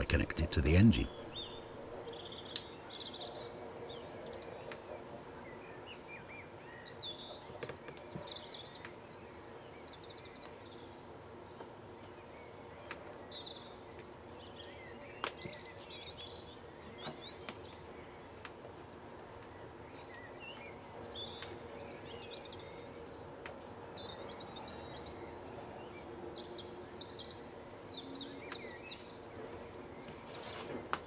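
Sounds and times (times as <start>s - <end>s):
birds chirping and warbling: 0.0s - 18.4s, 19.2s - 31.0s.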